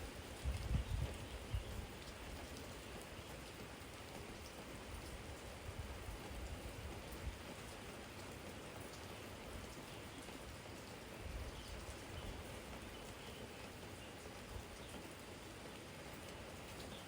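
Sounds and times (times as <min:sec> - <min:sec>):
rain falling on a jar: 0:00.0 - 0:17.0.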